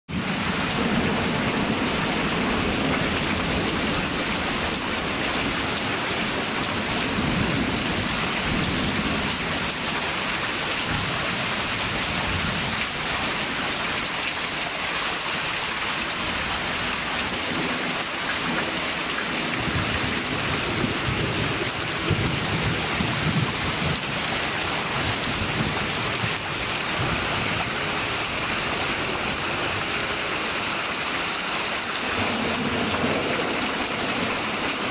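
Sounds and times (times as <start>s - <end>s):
heavy rain pouring: 0.1s - 34.9s
thunder rumbling: 0.2s - 13.8s, 16.2s - 31.0s, 31.6s - 34.9s.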